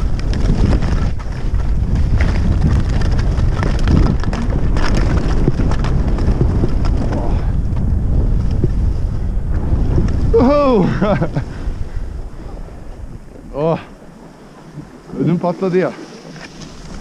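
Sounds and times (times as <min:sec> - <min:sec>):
skis carving on snow: 0:00.0 - 0:13.2, 0:14.5 - 0:17.0
wind buffeting microphone: 0:00.0 - 0:17.0.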